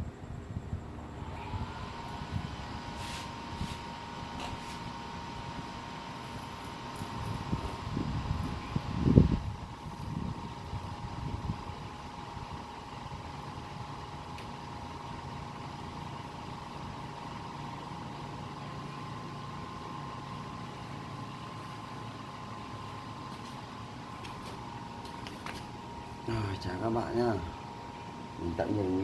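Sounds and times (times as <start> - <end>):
machine humming with high whine: 0.0 - 29.0.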